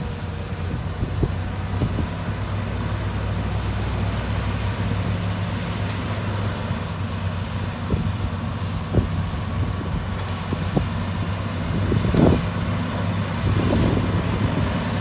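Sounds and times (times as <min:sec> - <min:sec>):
heavy machine engine running: 0:00.0 - 0:15.0.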